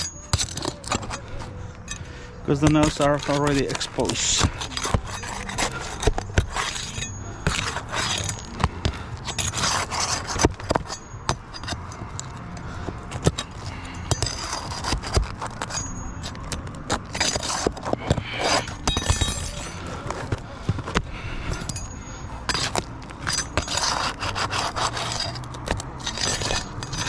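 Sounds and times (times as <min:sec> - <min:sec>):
shingles scraping: 0:02.1 - 0:27.0.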